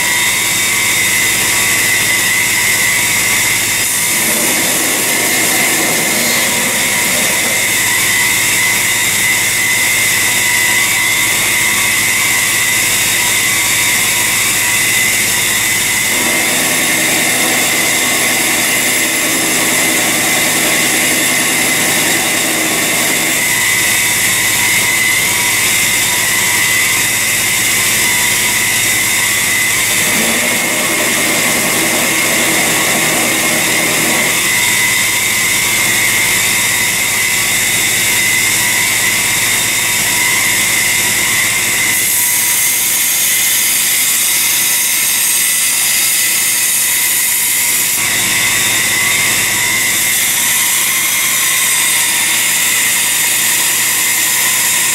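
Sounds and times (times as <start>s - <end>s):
electric grinder grinding steel: 0.0s - 54.9s.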